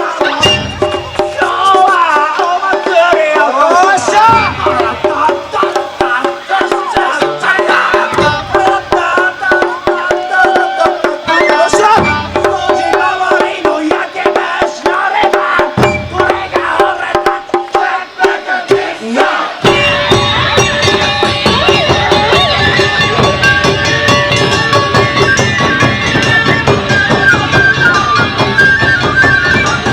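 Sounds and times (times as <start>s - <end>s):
people shouting calls: 0.0s - 29.9s
taiko drums struck fast: 0.0s - 29.9s
wavering melody: 4.2s - 18.0s, 19.6s - 29.9s.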